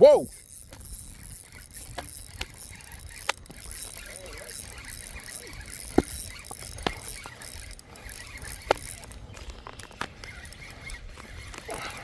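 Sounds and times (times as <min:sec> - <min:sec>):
fishing reel clicks: 0:00.0 - 0:12.0.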